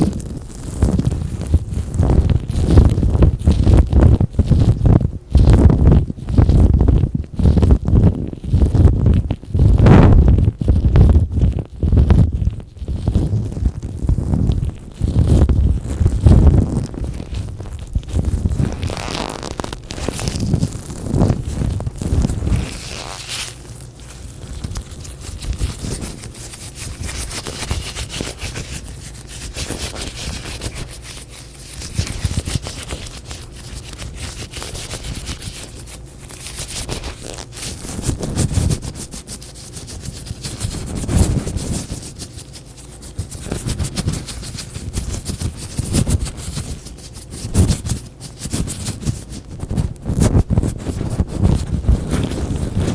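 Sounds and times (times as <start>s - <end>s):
latex gloves crinkling: 0.0s - 52.9s.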